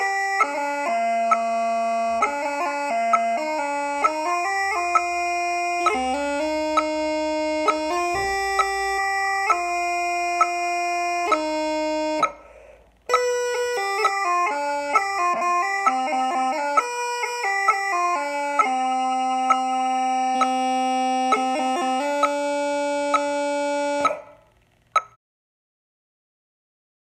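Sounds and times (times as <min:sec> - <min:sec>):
bagpipe chanter tune: 0:00.0 - 0:24.4.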